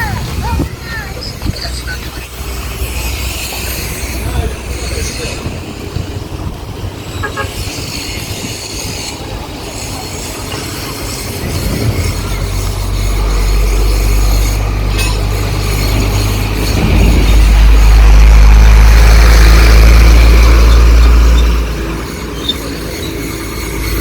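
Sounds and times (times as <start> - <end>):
heavy vehicle engine approaching: 0.0 - 24.0
street noise: 0.0 - 24.0.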